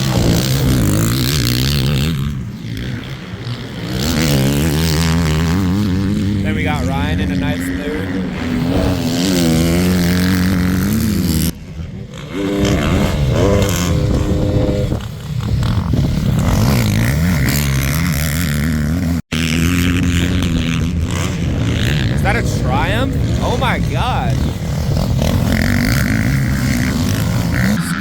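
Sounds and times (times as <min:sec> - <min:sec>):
motocross bikes revving past: 0:00.0 - 0:28.0.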